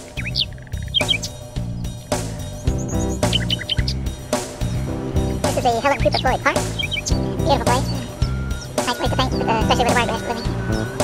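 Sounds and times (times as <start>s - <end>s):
bird chirps: 0.0s - 4.4s, 5.1s - 11.0s
background music: 0.0s - 11.0s.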